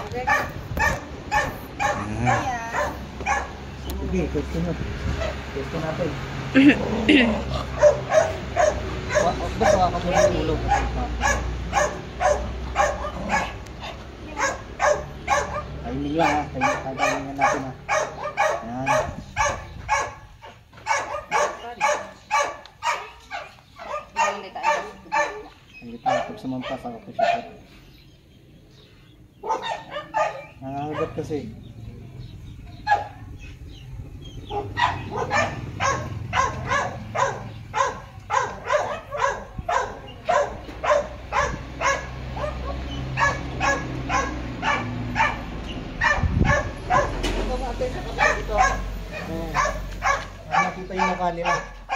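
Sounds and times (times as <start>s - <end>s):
dog barking: 0.0s - 3.6s, 7.7s - 27.6s, 29.4s - 31.4s, 32.7s - 33.3s, 34.4s - 47.4s, 48.0s - 51.9s.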